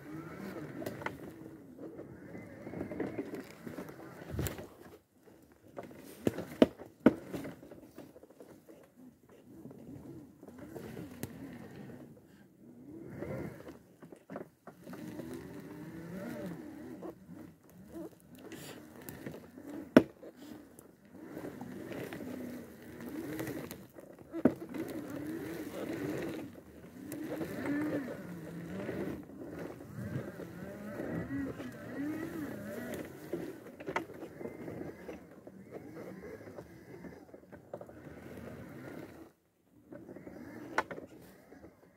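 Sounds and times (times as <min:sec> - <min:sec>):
wheelchair motors whining: 0:00.0 - 0:41.9.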